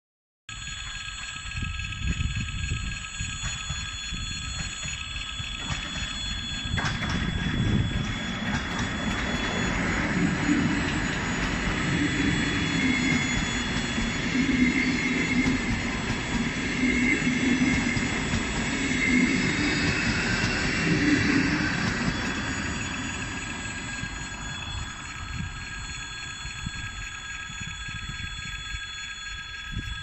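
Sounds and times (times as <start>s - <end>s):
wavering hum and whine: 0.5s - 30.0s
train wheels rumbling on rail: 0.6s - 30.0s.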